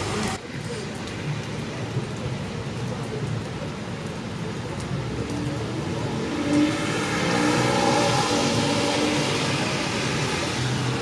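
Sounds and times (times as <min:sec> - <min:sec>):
tyres hissing on wet road: 0:00.0 - 0:11.0.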